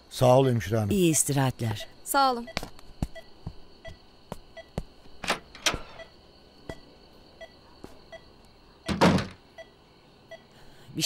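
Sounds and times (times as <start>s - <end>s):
patient monitor beeping: 0.1s - 10.7s.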